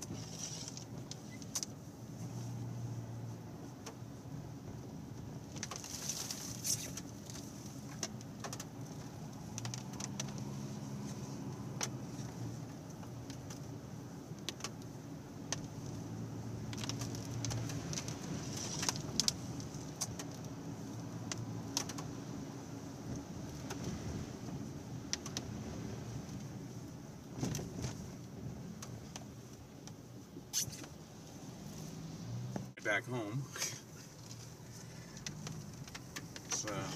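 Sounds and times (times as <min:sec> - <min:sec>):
car engine and road noise: 0:00.0 - 0:36.9
light clicks and rattles: 0:03.6 - 0:31.0, 0:33.6 - 0:36.9.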